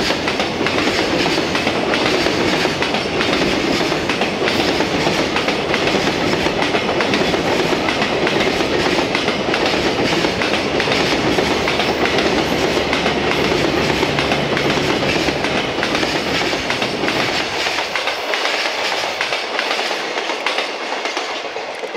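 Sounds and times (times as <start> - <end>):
freight train wheels rumbling: 0.0 - 21.9.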